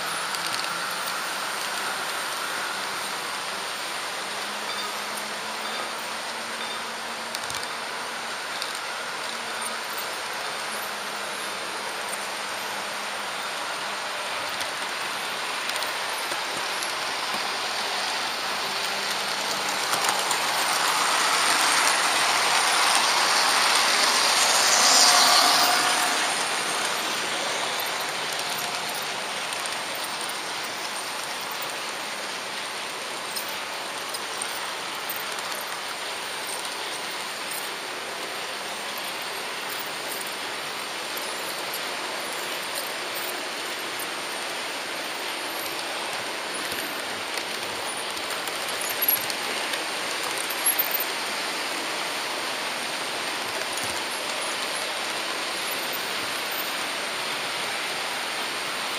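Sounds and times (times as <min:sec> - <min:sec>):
model train wheels ticking on track: 0:00.0 - 0:58.9.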